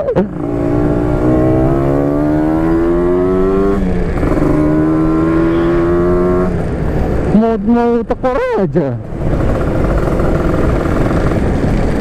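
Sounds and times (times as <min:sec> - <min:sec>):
two-stroke motorcycle accelerating: 0:00.0 - 0:12.0.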